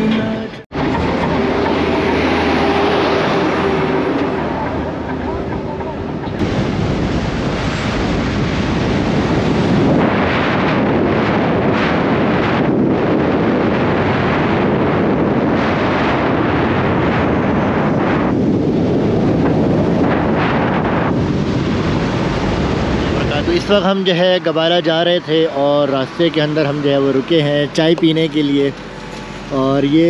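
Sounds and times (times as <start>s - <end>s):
wind buffeting microphone: 0.7s - 30.0s.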